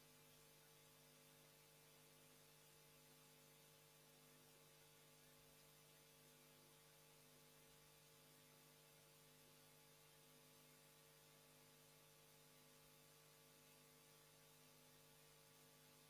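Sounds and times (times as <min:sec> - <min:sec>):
faint steady hum: 0:00.0 - 0:16.0
low hiss: 0:00.0 - 0:16.0.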